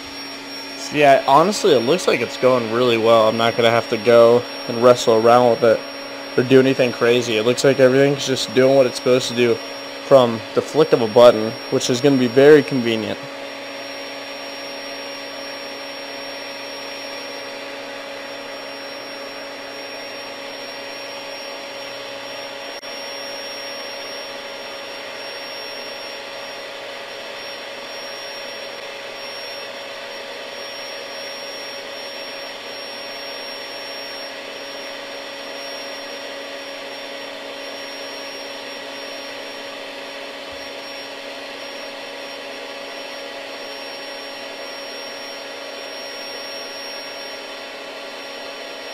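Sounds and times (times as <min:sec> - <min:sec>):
electric air pump whining: 0:00.0 - 0:48.9.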